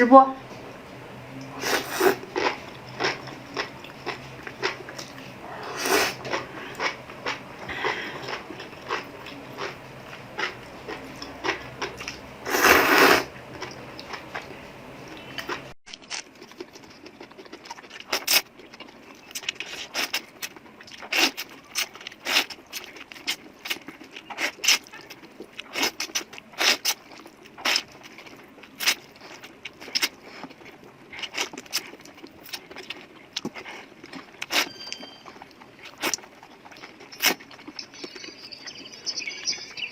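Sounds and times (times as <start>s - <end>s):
low background hum: 0.0s - 39.9s
chewing crunchy noodles: 1.4s - 38.9s.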